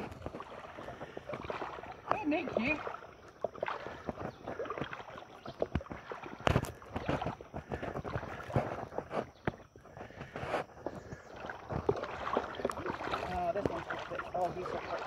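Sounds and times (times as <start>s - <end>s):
creek water sloshing and splashing: 0.0s - 15.0s.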